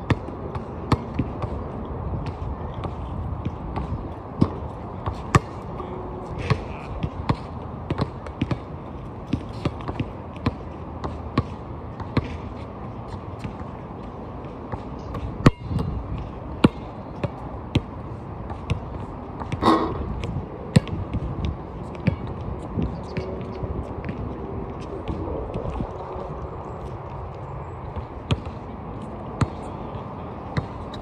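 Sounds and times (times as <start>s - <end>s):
basketballs bouncing: 0.0s - 25.9s, 26.8s - 30.9s.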